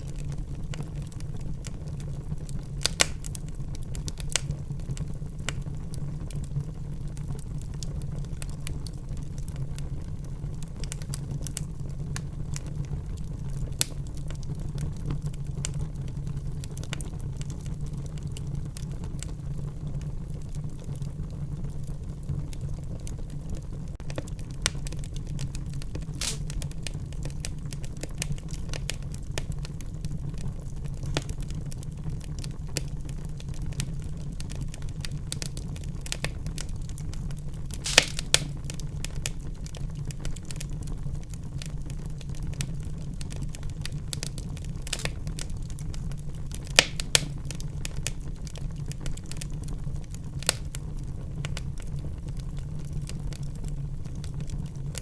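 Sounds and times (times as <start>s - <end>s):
fire crackling and popping: 0.0s - 55.0s
wood fire rumbling: 0.0s - 55.0s.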